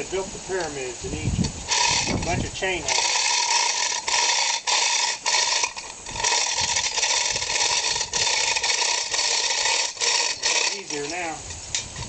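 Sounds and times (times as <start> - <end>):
ratchet clicking: 1.4 - 12.0
hoist chain rattling: 1.7 - 12.0.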